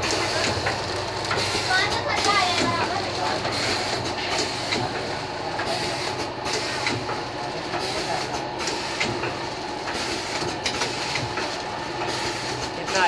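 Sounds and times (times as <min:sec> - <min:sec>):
packing machine humming: 0:00.0 - 0:13.0.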